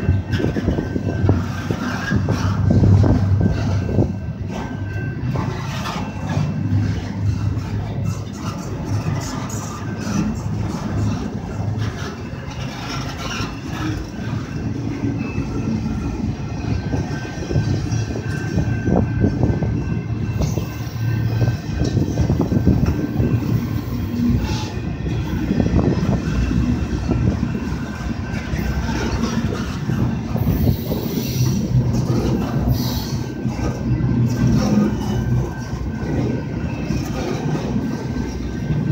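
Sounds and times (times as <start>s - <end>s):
clatter over rail joints: 0.0s - 38.9s
steel wheels rumbling on rail: 0.0s - 38.9s.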